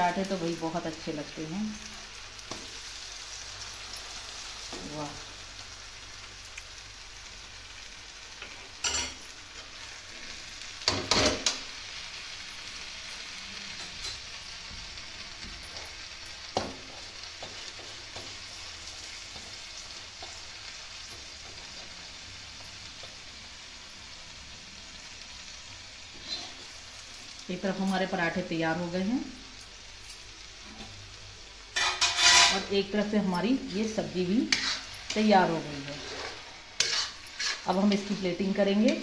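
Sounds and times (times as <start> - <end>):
flatbread frying sizzle: 0.0 - 39.0.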